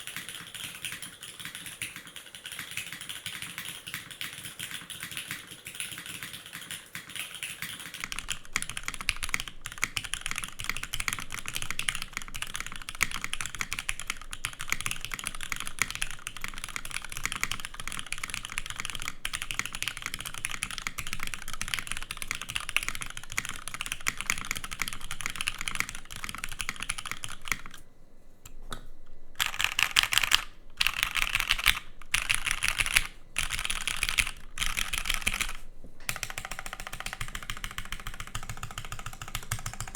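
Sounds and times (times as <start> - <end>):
typing on mechanical keyboard: 0.0 - 27.8, 29.4 - 39.9.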